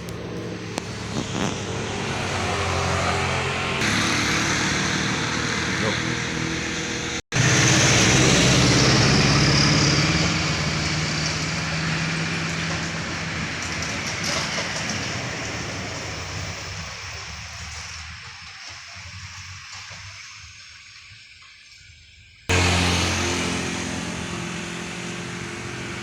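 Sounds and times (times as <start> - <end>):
heavy vehicle engine passing: 0.0 - 17.9, 22.5 - 26.0.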